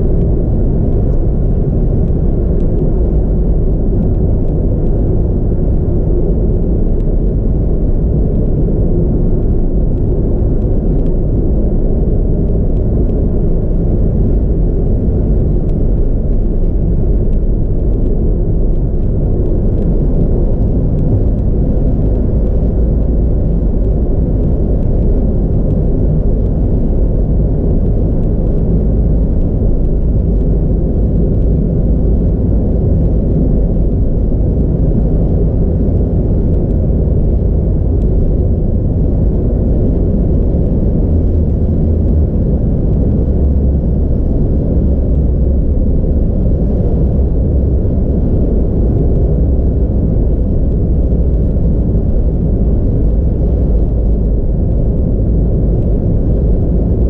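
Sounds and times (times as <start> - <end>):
car interior road rumble: 0.0 - 57.0.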